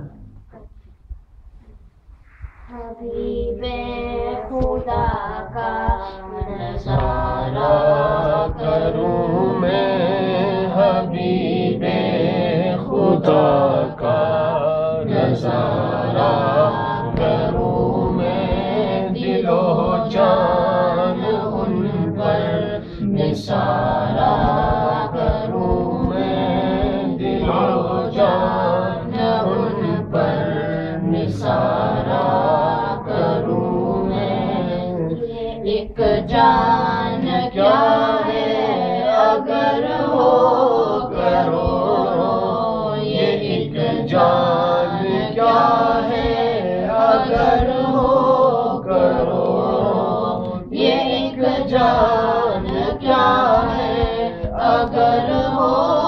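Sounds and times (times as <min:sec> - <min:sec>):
boys singing together: 0:00.0 - 0:00.2, 0:02.8 - 0:56.0.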